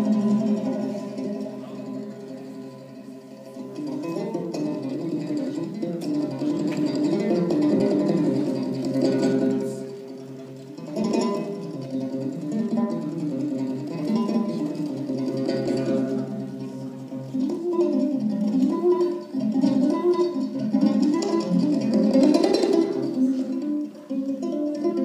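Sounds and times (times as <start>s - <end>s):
plucked lute playing: 0.0s - 25.0s.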